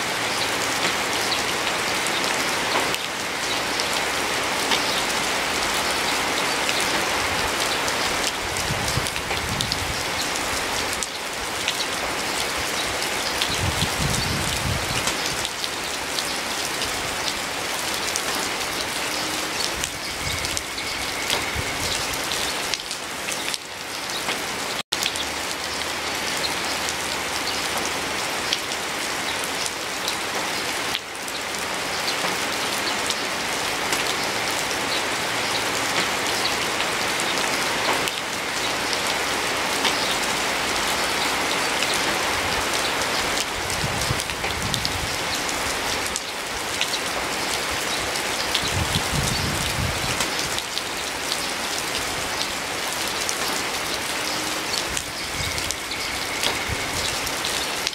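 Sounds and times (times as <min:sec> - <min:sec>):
rain falling on foliage: 0:00.0 - 0:57.9.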